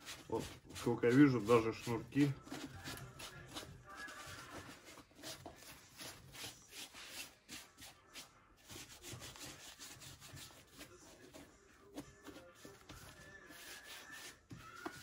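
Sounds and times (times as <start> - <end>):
sponge scrubbing leather: 0.0 - 11.5, 12.2 - 15.0.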